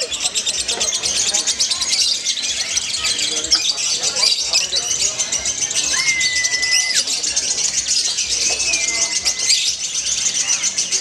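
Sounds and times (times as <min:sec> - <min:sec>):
lovebirds chattering: 0:00.0 - 0:11.0.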